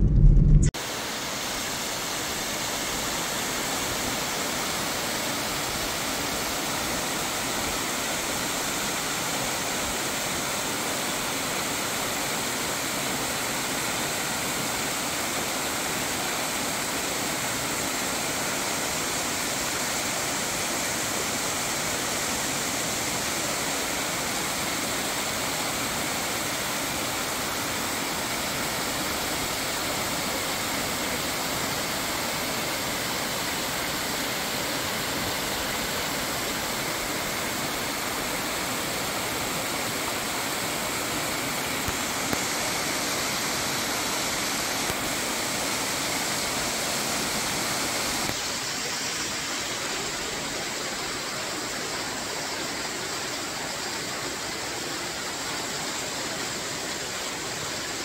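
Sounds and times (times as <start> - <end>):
water rushing down rocks: 0.8 - 58.0.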